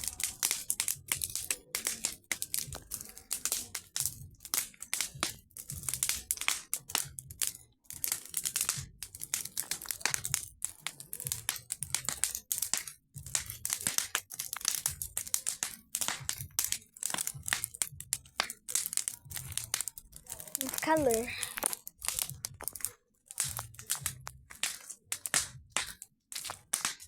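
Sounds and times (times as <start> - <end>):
burning brush crackling: 0.0 - 27.0.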